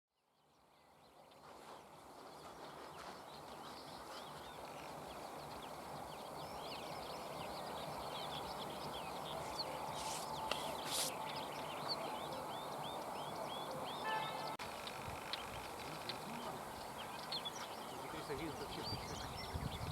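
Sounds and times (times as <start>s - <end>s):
birds singing chirps and whistles: 0.3s - 19.9s.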